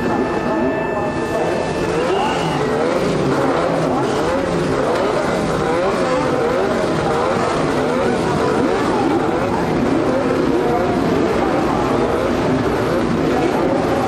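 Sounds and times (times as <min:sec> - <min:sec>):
racing car engines revving: 0:00.0 - 0:14.0.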